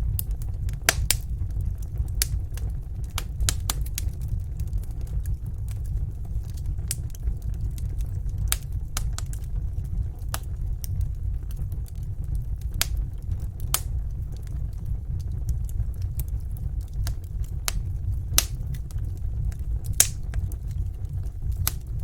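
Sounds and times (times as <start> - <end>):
fire pops and snaps: 0.0 - 22.0
low rumble of flames: 0.0 - 22.0.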